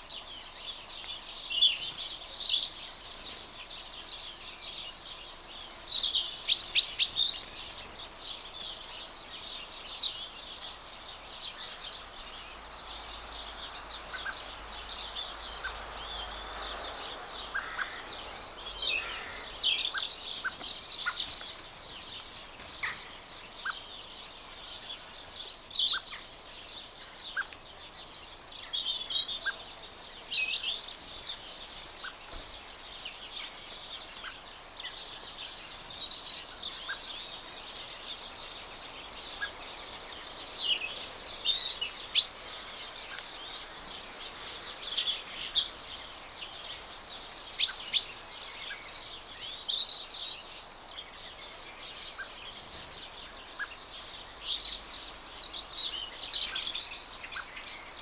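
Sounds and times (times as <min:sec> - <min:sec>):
songbirds chirping and twittering: 0:00.0 - 0:58.0.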